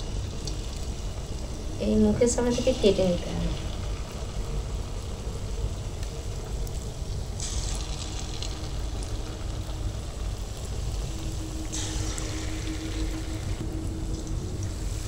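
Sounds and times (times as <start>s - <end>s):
low rumble: 0.0s - 15.0s
oil bubbling: 0.0s - 15.0s
sizzling frying: 0.0s - 15.0s.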